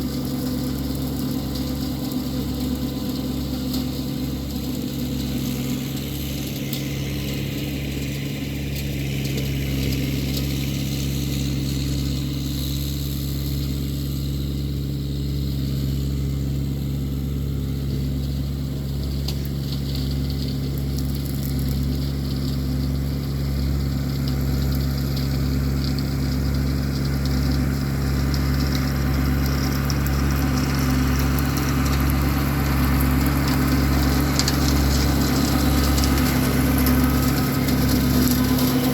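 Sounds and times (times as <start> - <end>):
brush mower cutting brush: 0.0 - 38.9
tractor engine running: 0.0 - 38.9.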